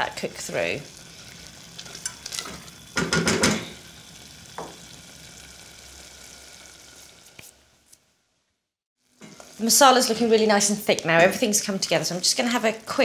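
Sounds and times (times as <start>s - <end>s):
low sizzle of sauce: 0.0s - 8.4s, 9.0s - 13.0s.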